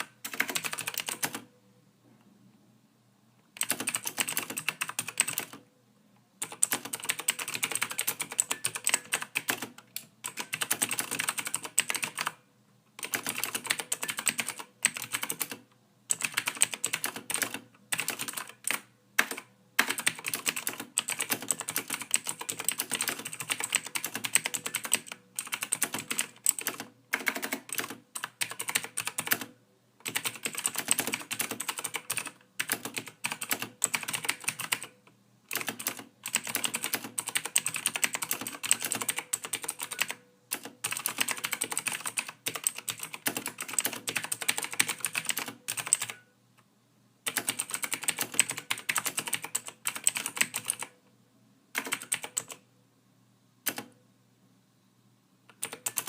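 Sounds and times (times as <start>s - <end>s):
typing on computer keyboard: 0.0s - 1.5s, 3.6s - 5.6s, 6.4s - 12.4s, 13.0s - 46.2s, 47.2s - 51.0s, 51.7s - 52.6s, 53.6s - 54.0s, 55.5s - 56.0s.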